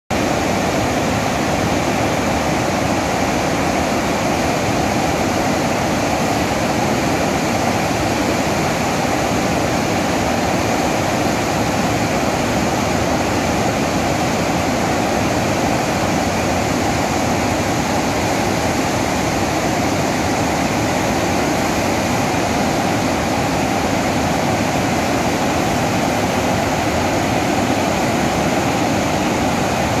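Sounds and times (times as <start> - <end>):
rushing water: 0.1 - 30.0.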